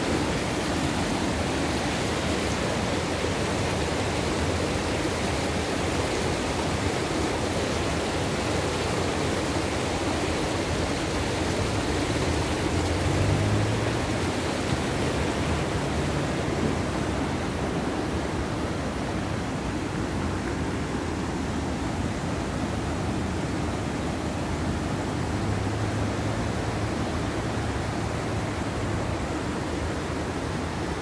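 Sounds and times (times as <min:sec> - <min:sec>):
floodwater rushing over rocks: 0:00.0 - 0:31.0.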